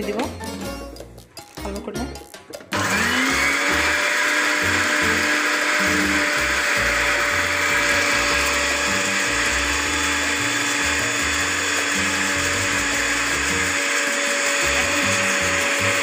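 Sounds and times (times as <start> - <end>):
electric blender running: 2.7 - 16.0.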